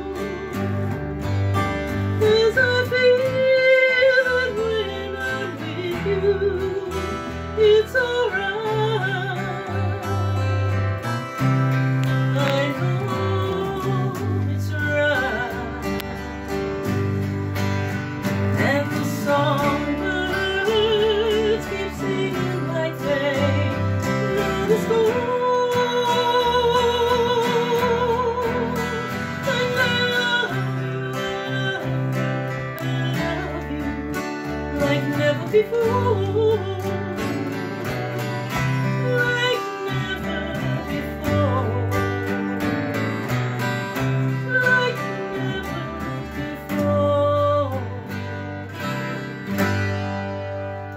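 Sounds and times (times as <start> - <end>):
acoustic guitars strumming: 0.0 - 50.9
woman singing: 0.0 - 50.9.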